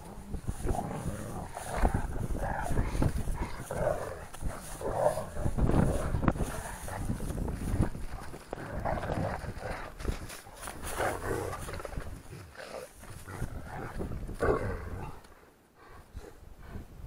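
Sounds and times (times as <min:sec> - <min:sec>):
dogs snarling and growling: 0:00.0 - 0:16.8.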